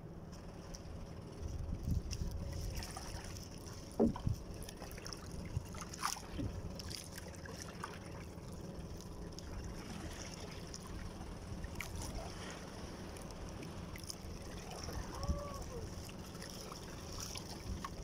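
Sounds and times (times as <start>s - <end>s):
paddle splashing water: 0.3s - 18.0s.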